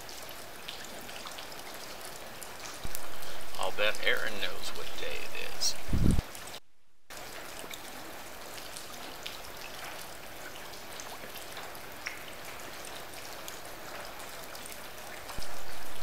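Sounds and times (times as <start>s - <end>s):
rain falling: 0.0s - 16.0s
raindrop ticks: 0.1s - 6.5s, 7.1s - 16.0s.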